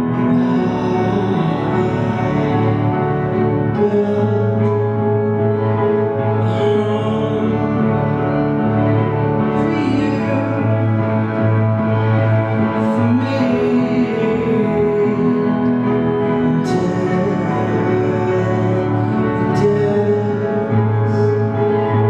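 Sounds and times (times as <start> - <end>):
instrumental music with held notes: 0.0 - 22.0
steady low drone note: 0.0 - 22.0.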